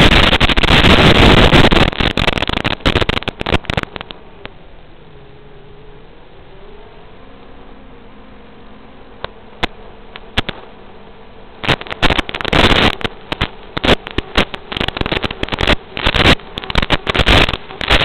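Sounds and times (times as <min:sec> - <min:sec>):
static crackles: 0:00.0 - 0:05.2, 0:08.4 - 0:18.0
radio static hiss: 0:00.0 - 0:18.0.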